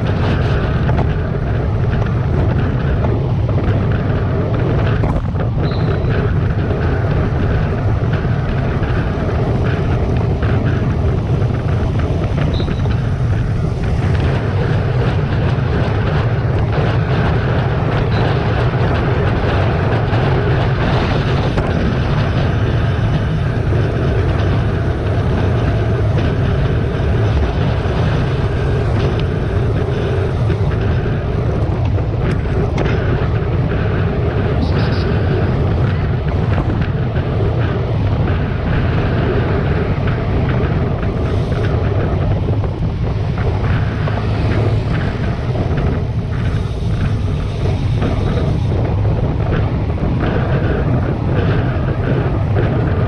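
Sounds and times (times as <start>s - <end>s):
tyres rumbling on asphalt: 0.0s - 53.0s
wind rushing over microphone: 0.0s - 53.0s.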